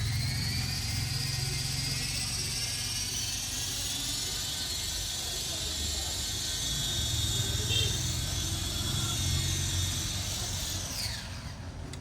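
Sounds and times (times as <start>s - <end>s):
high motor whine: 0.0s - 12.0s.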